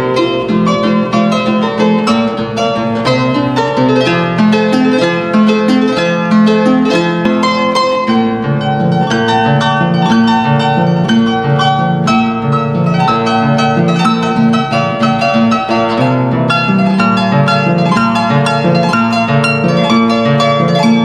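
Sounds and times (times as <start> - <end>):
harp plucked melody: 0.0 - 21.0.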